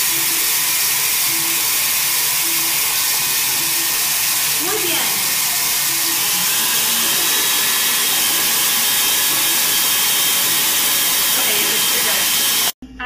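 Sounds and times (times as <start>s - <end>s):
stand mixer motor whirring: 0.0s - 12.8s.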